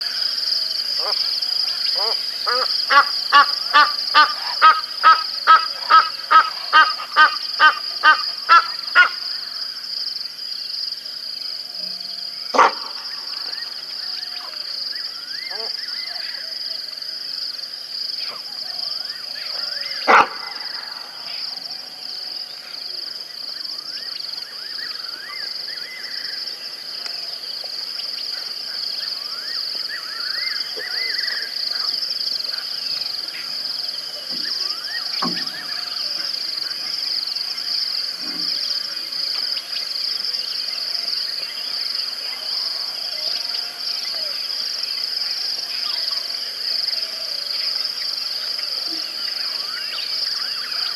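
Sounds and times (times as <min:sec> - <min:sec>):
high-pitched insect drone: 0:00.0 - 0:50.9.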